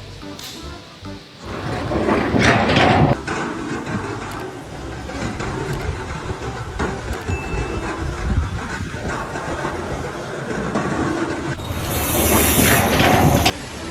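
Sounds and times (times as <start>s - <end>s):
heavy machinery rumbling: 0.0s - 13.9s
scattered clatter: 1.4s - 13.6s.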